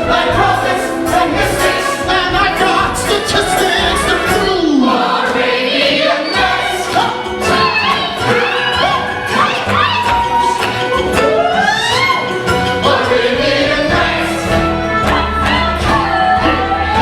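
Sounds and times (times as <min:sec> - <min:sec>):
choir singing over pulsing bass: 0:00.0 - 0:17.0.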